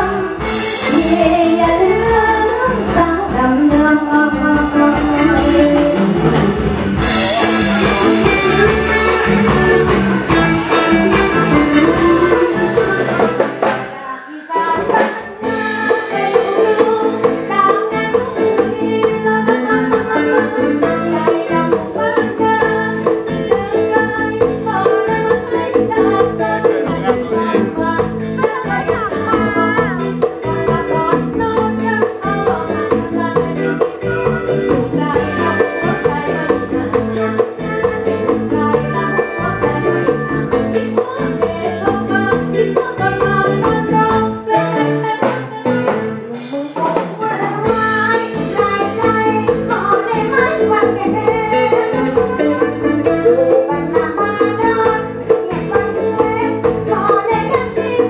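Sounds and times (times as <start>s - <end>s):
backing music with steady beat: 0.0s - 58.0s
band with brass and drums: 0.0s - 58.0s
woman singing into microphone: 0.0s - 58.0s.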